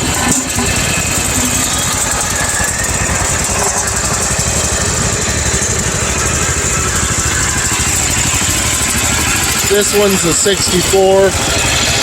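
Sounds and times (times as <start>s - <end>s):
small tractor engine idling: 0.0s - 12.0s.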